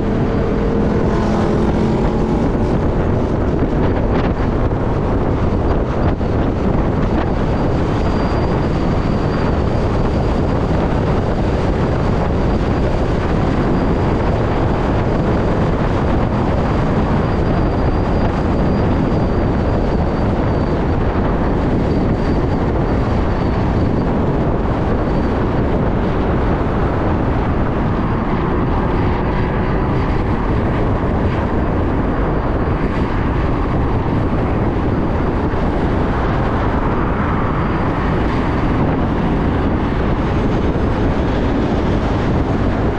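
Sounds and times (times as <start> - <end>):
wind and road noise: 0.0 - 42.9.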